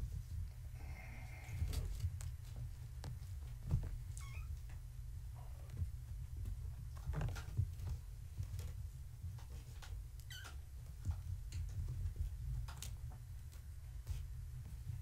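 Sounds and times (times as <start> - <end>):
kittens playing thumps and scuffles: 0.0 - 15.0
steady low hum: 0.0 - 15.0.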